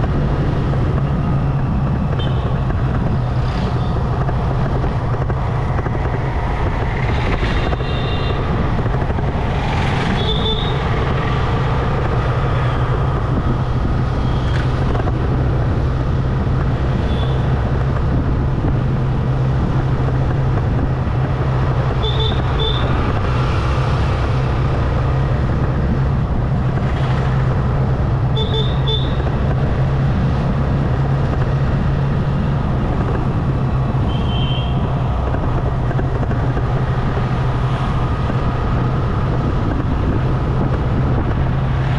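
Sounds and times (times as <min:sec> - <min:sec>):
wind and tyre noise: 0:00.0 - 0:41.9.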